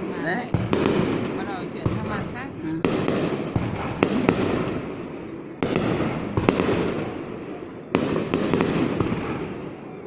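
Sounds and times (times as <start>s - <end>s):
sharp firework cracks: 0.0s - 2.2s, 2.8s - 9.8s
fireworks booming: 0.0s - 10.0s.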